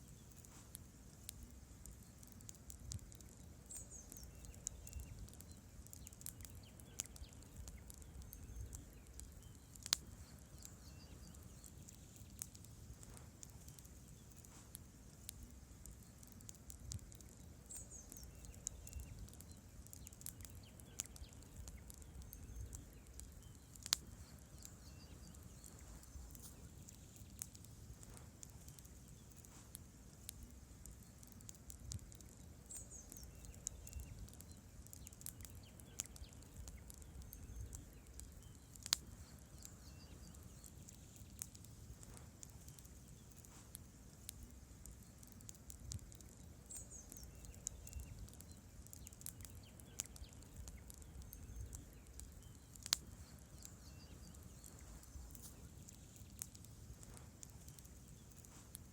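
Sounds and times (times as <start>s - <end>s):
logs crackling and popping: 0.0s - 58.9s
low rumble of flame: 0.0s - 58.9s.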